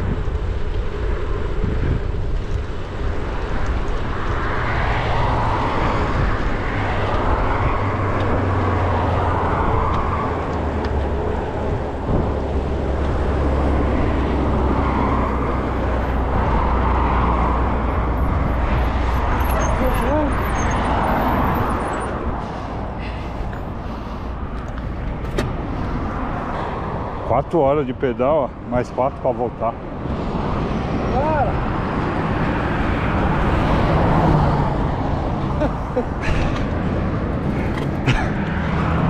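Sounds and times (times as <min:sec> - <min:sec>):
highway traffic passing: 0:00.0 - 0:39.0
wind rumbling on microphone: 0:00.0 - 0:39.0.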